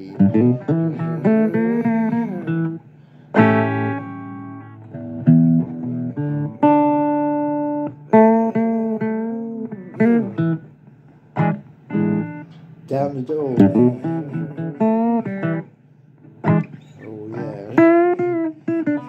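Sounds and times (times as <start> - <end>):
blues guitar solo: 0.0 - 19.0.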